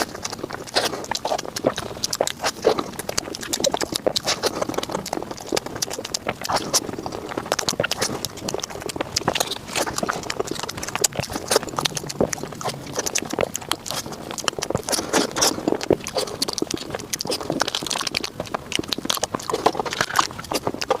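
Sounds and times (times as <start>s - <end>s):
chewing and lip-smacking: 0.0s - 21.0s.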